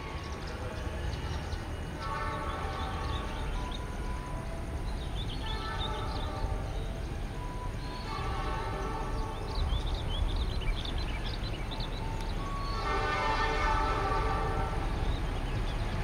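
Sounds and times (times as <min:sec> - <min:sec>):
train horn blasts: 0:00.0 - 0:10.8, 0:12.0 - 0:15.6
diesel locomotive engine rumble: 0:00.0 - 0:16.0.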